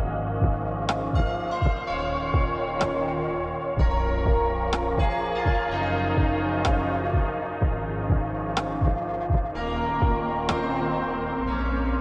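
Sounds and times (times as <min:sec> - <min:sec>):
low pulsing bass thumps: 0:00.0 - 0:03.1, 0:03.7 - 0:10.8.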